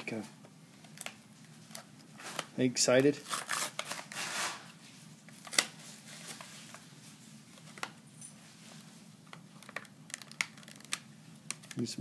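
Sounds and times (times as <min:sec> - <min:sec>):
plastic packaging rustling: 0:01.6 - 0:12.0.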